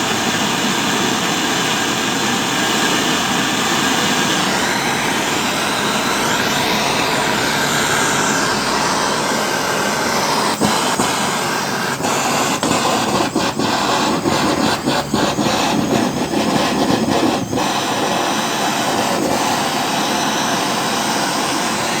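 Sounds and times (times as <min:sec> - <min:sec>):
gas torch flame hissing: 0:00.0 - 0:22.0.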